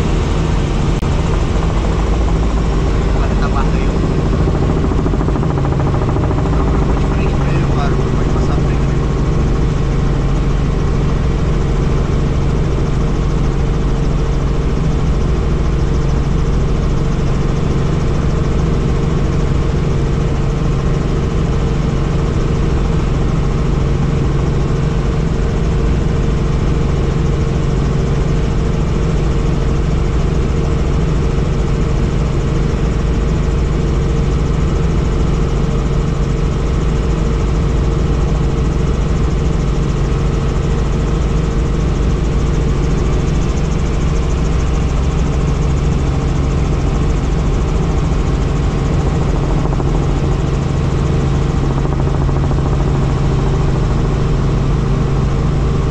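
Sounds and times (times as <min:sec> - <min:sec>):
helicopter engine and rotors droning: 0:00.0 - 0:55.9.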